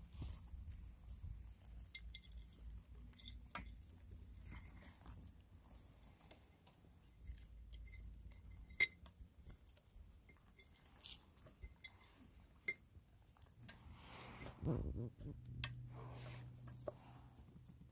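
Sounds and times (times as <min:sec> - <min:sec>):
hens pecking from metal bowl: 0:00.1 - 0:17.9.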